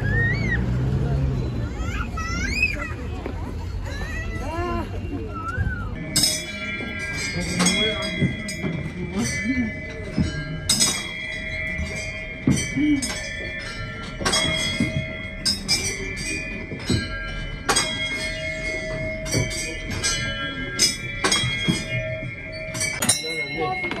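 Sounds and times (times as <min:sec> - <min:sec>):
prayer wheel bells ringing: 0:00.0 - 0:24.0.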